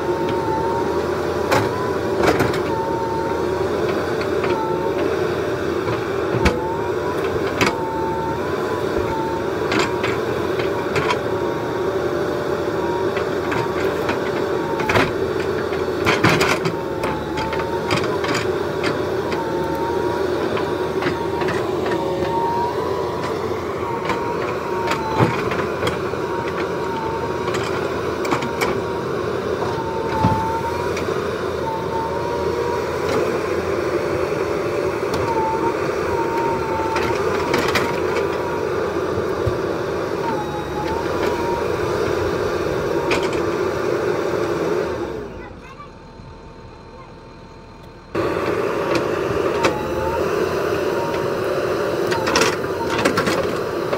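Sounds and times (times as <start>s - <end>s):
diesel engine running: 0.0s - 53.9s
hydraulic whine: 0.0s - 53.9s.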